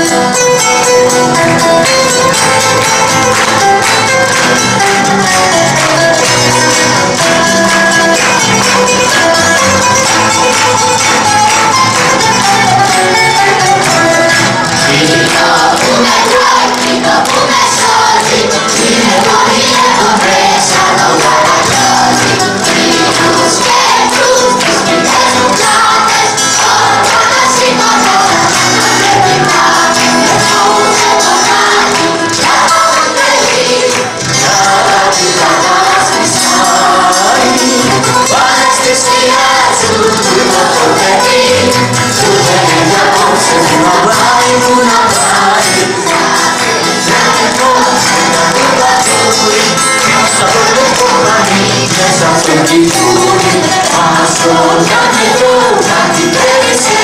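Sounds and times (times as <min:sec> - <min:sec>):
music accompaniment: 0:00.0 - 0:57.0
children singing together: 0:01.1 - 0:57.0.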